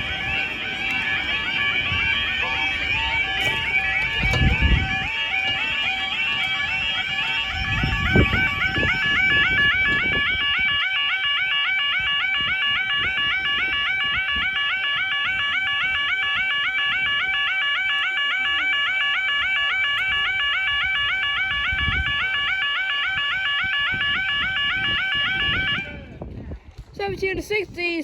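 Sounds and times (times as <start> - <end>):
level crossing warbling alarm: 0.0 - 26.1.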